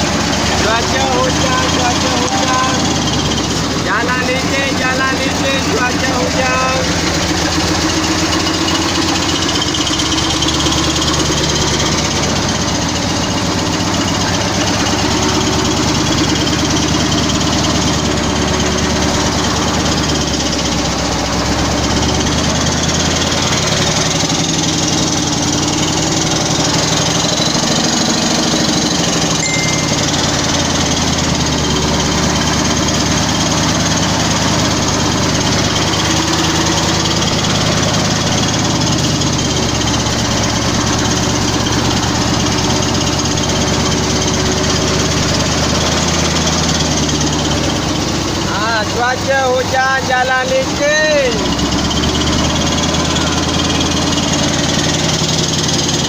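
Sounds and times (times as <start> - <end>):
diesel truck engine clattering: 0.0 - 56.0.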